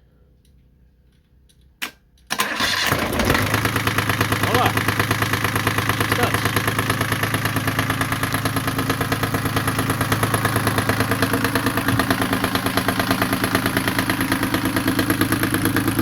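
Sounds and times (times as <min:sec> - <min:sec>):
diesel engine idling: 0:02.4 - 0:16.0.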